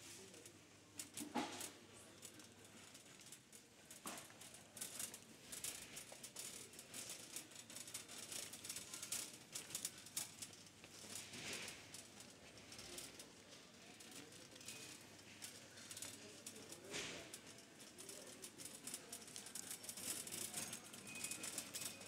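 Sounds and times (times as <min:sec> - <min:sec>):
shopping cart rattling: 0:00.1 - 0:22.0.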